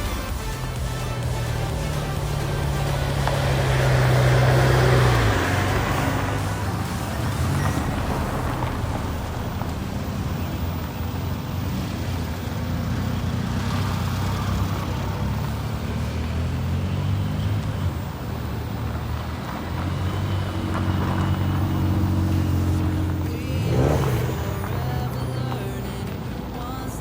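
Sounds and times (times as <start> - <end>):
car engines running at low revs: 0.0 - 27.0.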